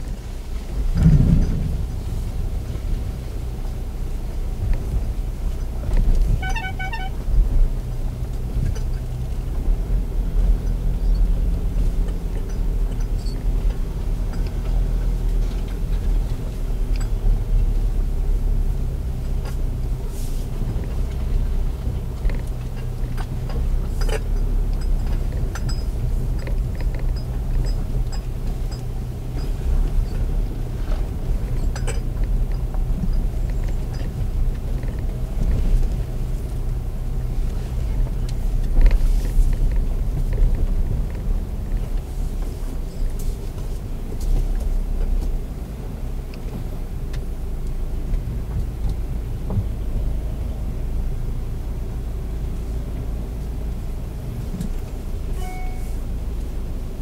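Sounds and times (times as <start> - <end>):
car engine and tyre rumble: 0.0 - 57.0
car knocks and rattles: 0.6 - 50.8.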